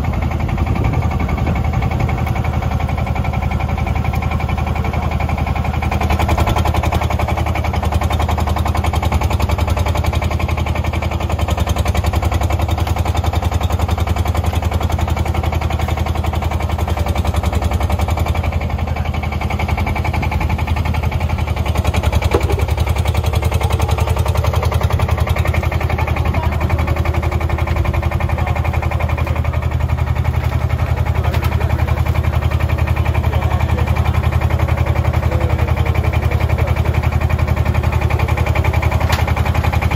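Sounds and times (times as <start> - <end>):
engine idling with knock: 0.0 - 39.9.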